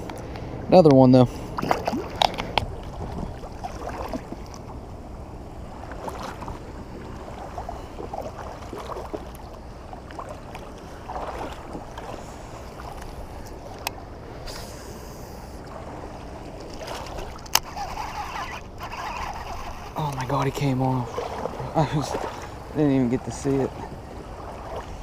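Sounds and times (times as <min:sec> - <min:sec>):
water sloshing around kayak: 0:00.0 - 0:25.0.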